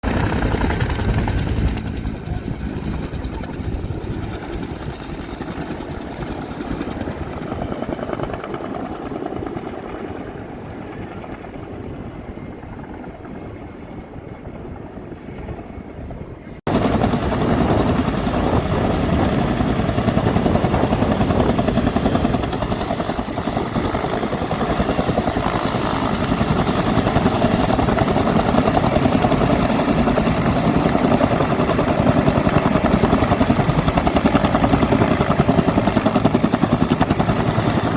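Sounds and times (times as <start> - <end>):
helicopter running: 0.0 - 15.7, 16.7 - 37.9.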